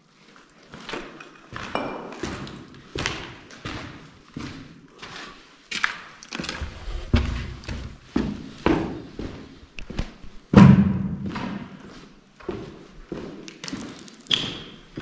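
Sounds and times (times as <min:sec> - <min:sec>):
footsteps on gritty concrete: 0:02.4 - 0:15.0.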